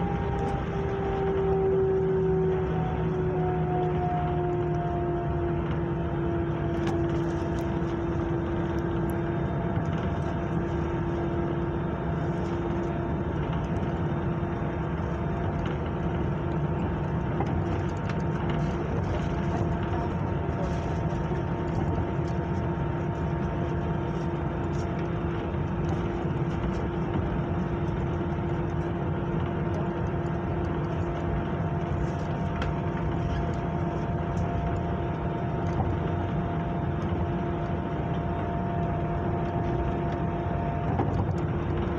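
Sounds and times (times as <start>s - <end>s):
airliner cabin hum and rumble: 0.0s - 41.9s.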